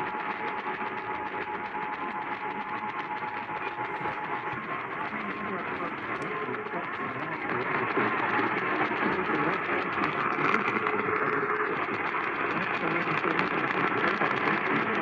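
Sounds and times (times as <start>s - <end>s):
muffled radio static hiss: 0.0s - 15.0s.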